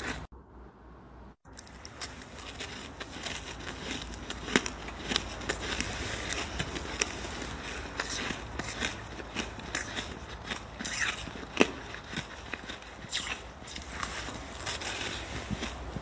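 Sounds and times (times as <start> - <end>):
sharp ice cracks: 1.5 - 15.7
shaved ice crackling: 1.6 - 15.8.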